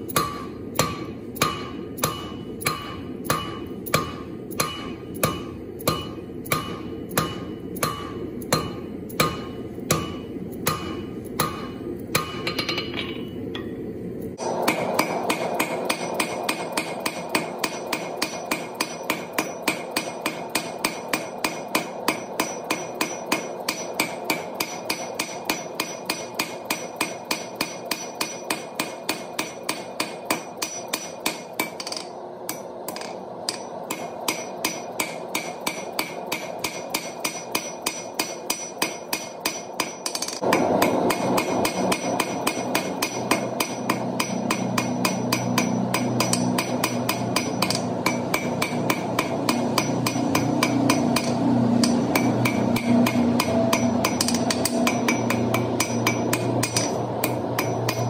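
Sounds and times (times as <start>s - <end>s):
hammer striking hot steel on anvil: 0.0s - 58.0s.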